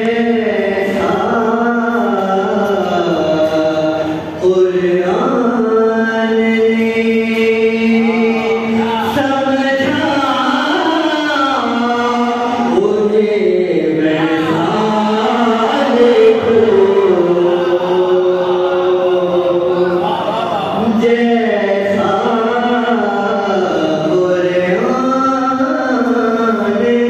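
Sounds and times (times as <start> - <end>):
solo voice chanting: 0.0 - 27.0.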